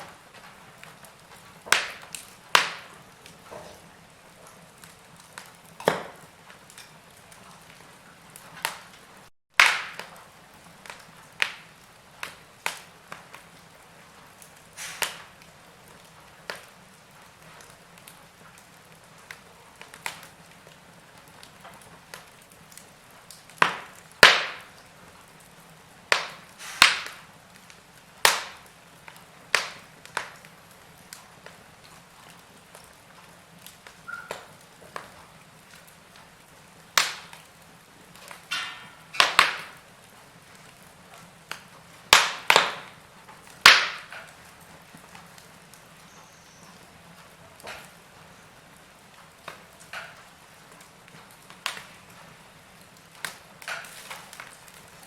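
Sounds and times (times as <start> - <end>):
faint steady hiss: 0.0 - 55.0
logs crackling and popping: 0.0 - 55.0.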